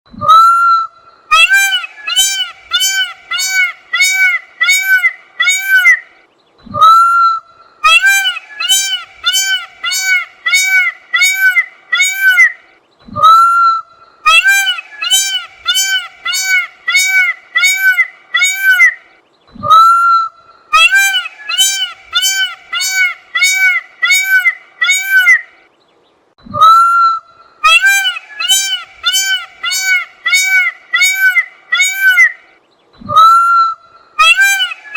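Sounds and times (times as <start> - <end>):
peacock calling: 0.2 - 25.7, 26.5 - 34.9.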